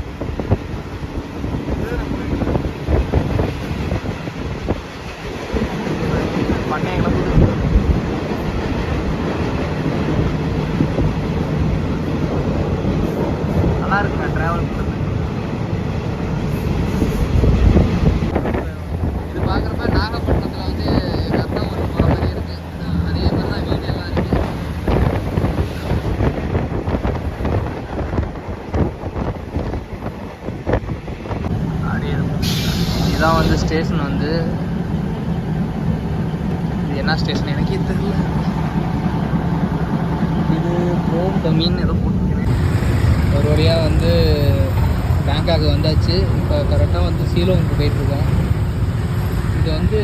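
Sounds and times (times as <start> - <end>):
train rumble and wheel clatter: 0.0 - 50.0
wind buffeting microphone: 0.0 - 50.0.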